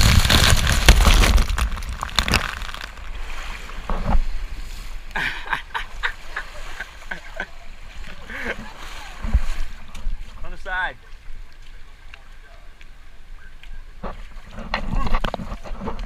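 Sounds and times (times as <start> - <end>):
water splashing and rushing: 0.0 - 16.0.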